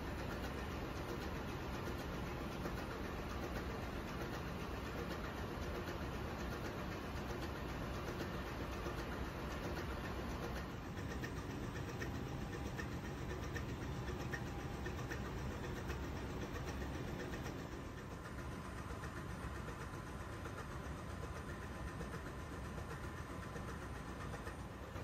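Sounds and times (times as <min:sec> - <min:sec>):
engine room machinery drone: 0:00.0 - 0:25.0.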